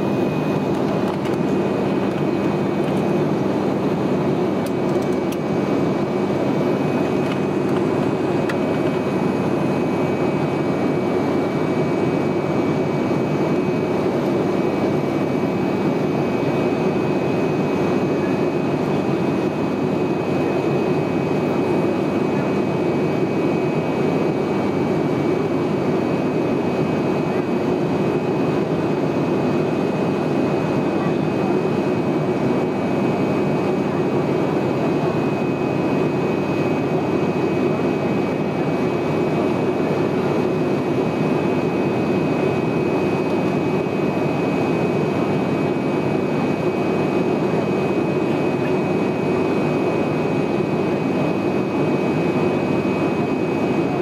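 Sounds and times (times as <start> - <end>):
turboprop engine droning: 0.0 - 54.0.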